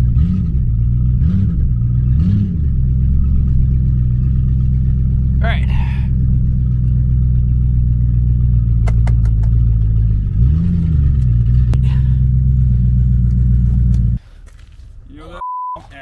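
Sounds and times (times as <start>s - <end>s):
engine revving: 0.0s - 14.2s
car engine idling: 0.0s - 14.3s.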